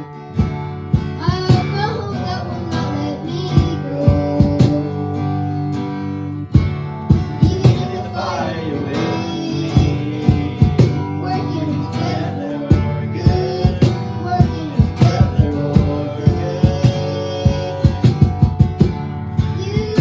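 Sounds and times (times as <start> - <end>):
acoustic guitar strumming: 0.0 - 20.0
faint singing: 1.2 - 5.9, 7.1 - 20.0.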